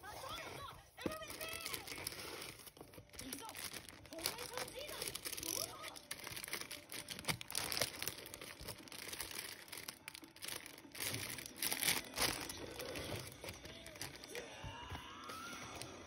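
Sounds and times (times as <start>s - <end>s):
plastic bags crinkling: 0.2s - 16.0s.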